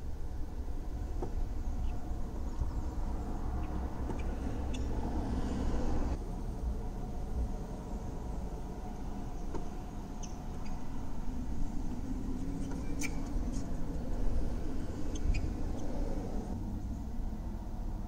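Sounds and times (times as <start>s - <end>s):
low rumble inside car: 0.0s - 18.0s.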